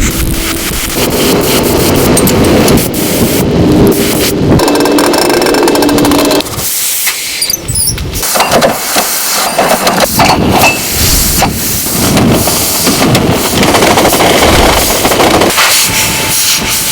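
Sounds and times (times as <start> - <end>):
train clanks and knocks: 0.0 - 3.0, 4.0 - 6.8, 7.4 - 16.9
train rushing hiss: 0.0 - 4.6, 6.5 - 16.9.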